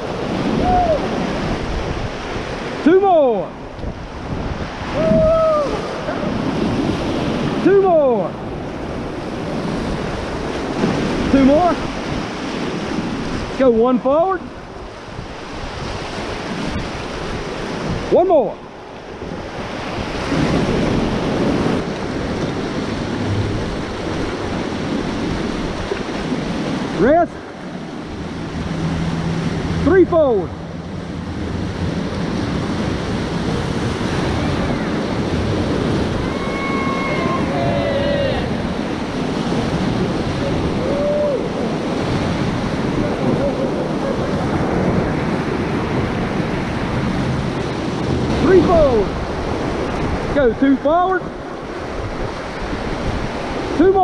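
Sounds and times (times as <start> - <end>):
whitewater rushing and splashing: 0.0 - 54.0.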